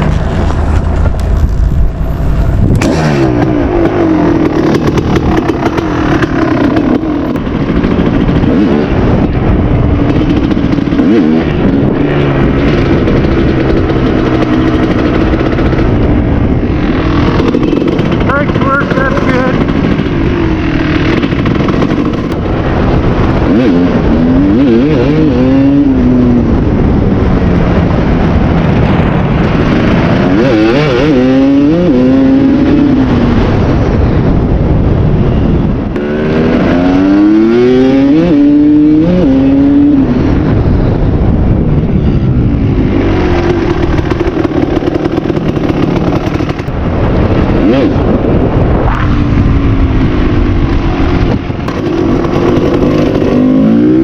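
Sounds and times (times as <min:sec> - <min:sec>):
two-stroke dirt bike engine accelerating: 0:00.0 - 0:54.0.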